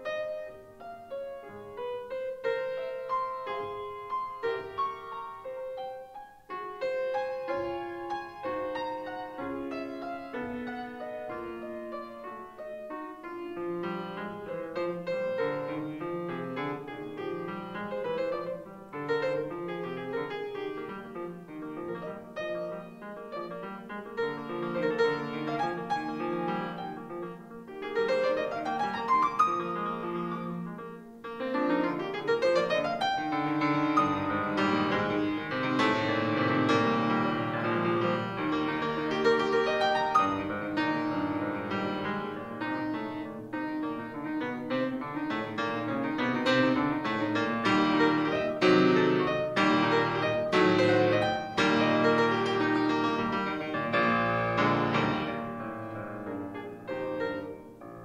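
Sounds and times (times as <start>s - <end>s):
solo piano piece: 0.0s - 58.0s.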